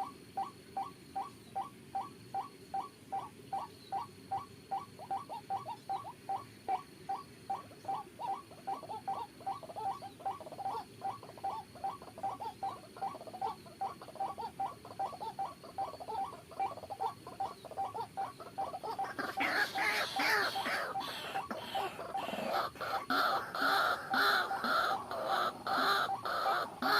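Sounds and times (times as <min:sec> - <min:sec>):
waterhen calling: 0:00.0 - 0:26.9.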